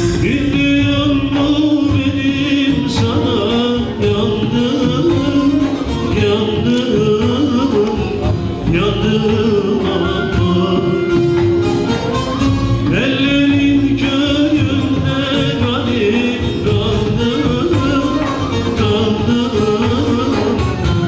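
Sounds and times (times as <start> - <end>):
man singing: 0.0 - 11.6, 12.8 - 21.0
long-necked lutes playing: 0.0 - 21.0.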